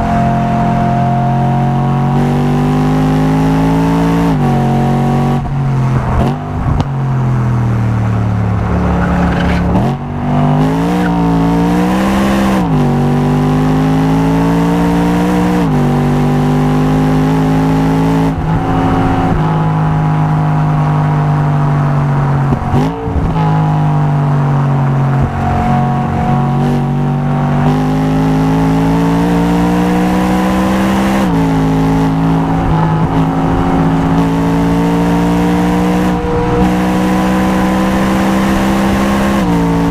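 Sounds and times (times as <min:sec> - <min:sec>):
race car engine and exhaust: 0:00.0 - 0:39.9.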